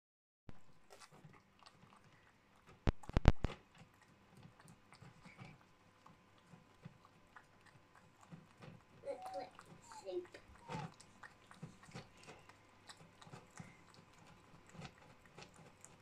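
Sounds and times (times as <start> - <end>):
cat licking wet food: 0.5 - 16.0.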